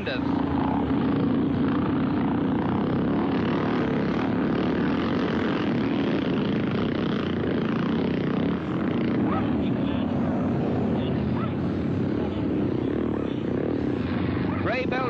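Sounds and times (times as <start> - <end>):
motorcycle engines racing: 0.0 - 15.0.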